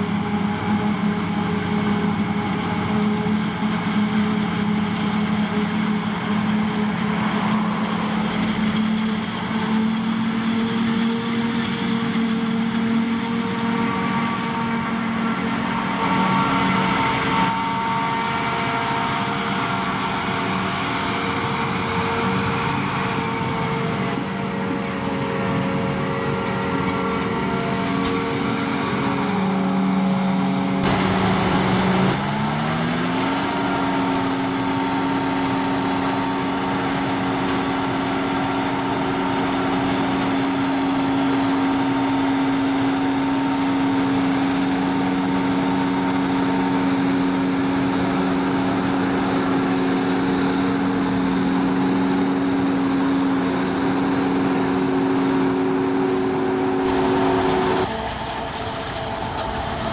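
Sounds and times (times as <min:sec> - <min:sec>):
forage harvester engine hum: 0:00.0 - 0:59.9.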